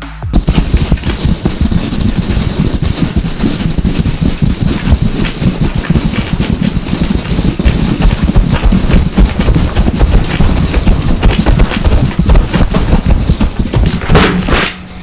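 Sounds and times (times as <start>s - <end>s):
patter of low thumps: 0.3s - 14.6s
crackle and hiss: 0.4s - 14.8s.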